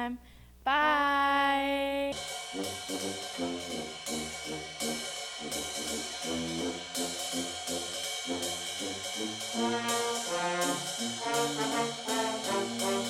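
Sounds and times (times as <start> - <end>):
cymbal strokes: 2.1 - 13.0
brass music: 2.2 - 13.0.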